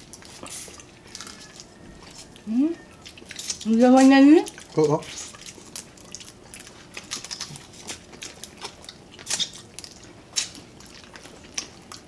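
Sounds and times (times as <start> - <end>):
chewing and mouth smacks: 0.0 - 12.0.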